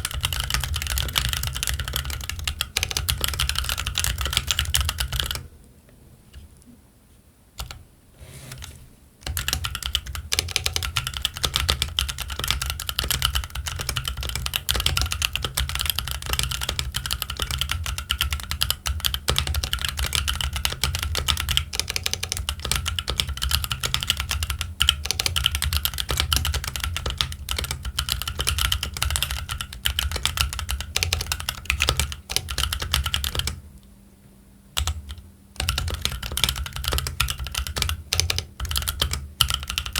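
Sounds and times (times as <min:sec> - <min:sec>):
mechanical keyboard typing: 0:00.0 - 0:05.4, 0:07.6 - 0:07.8, 0:08.5 - 0:33.6, 0:34.8 - 0:39.9.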